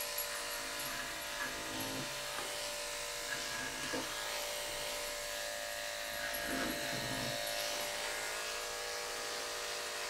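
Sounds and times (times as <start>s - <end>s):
electric clippers humming: 0.0s - 10.0s.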